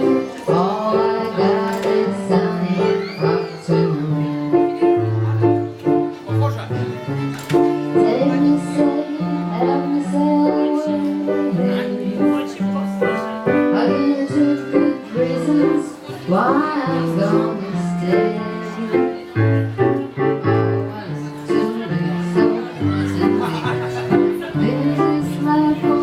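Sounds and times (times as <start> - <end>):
live music with held notes: 0.0 - 26.0
sliding notes: 0.0 - 26.0.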